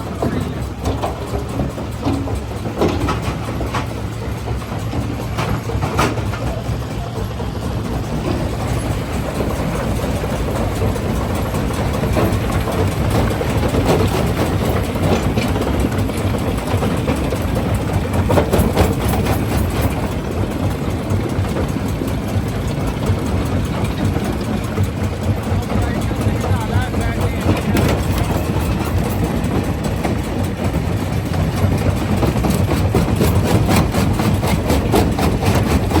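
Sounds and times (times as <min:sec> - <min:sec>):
rock crusher droning: 0:00.0 - 0:36.0.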